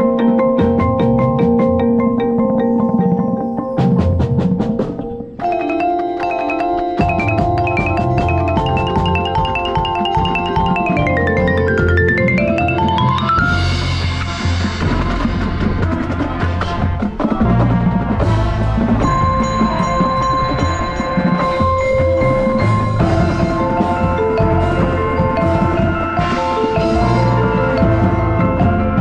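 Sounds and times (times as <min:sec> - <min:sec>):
bell-like mallet percussion: 0:00.0 - 0:15.7, 0:18.3 - 0:29.0.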